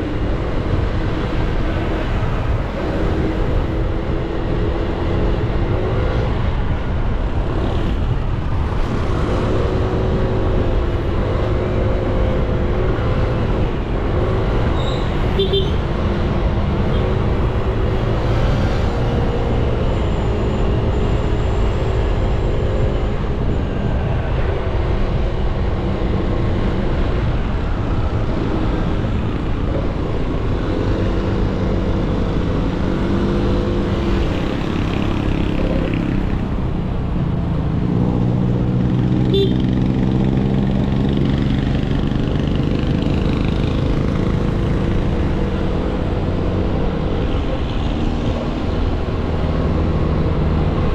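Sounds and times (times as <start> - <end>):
road rumble: 0.0 - 50.9
wind: 0.0 - 50.9.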